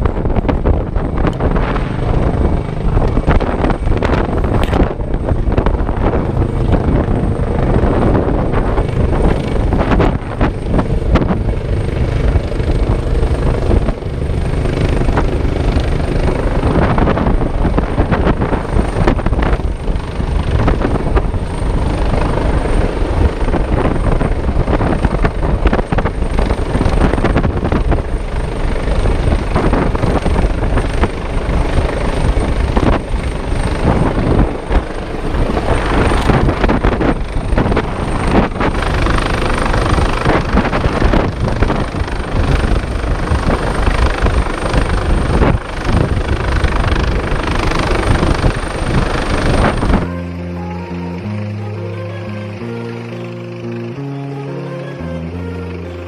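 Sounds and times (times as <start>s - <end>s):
helicopter running close by: 0.0s - 56.0s.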